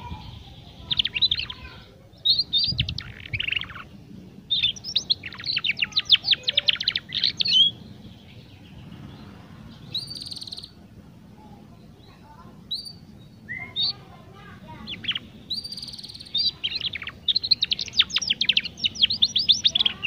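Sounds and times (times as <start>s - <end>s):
canary chirping: 0.0s - 10.8s, 12.0s - 20.0s
buzzy bird trill: 0.0s - 10.9s, 11.6s - 20.0s.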